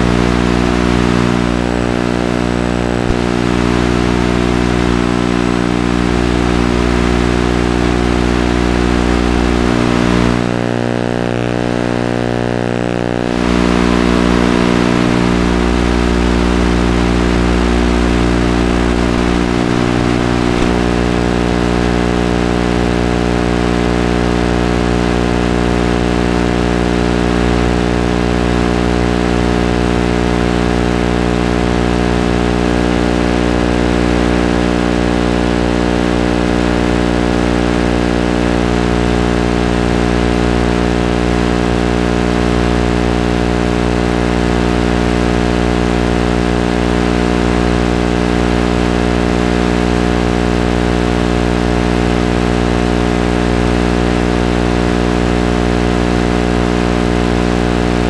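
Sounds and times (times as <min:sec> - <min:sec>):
electrical hum-buzz: 0:00.0 - 0:58.0.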